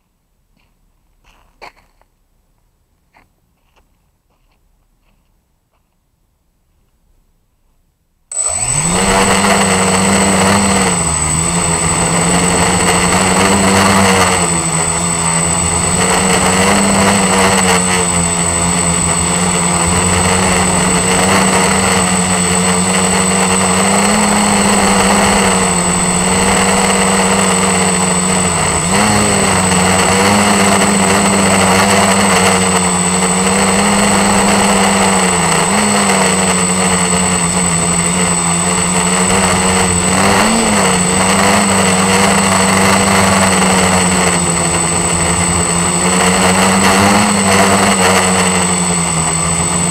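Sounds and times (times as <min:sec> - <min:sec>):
high whine: 0:08.3 - 0:49.9
quadcopter motors buzzing: 0:08.3 - 0:49.9.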